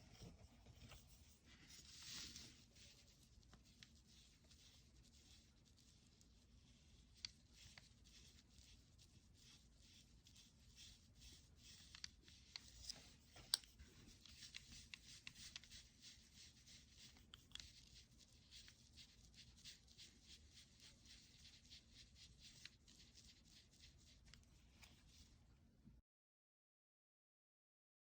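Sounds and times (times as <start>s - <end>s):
paintbrush strokes on paper: 0.0s - 25.5s.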